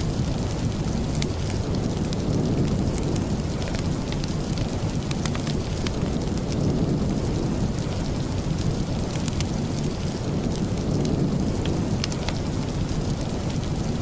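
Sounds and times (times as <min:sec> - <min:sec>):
deep rumbling: 0:00.0 - 0:14.0
heavy rain: 0:00.0 - 0:14.0.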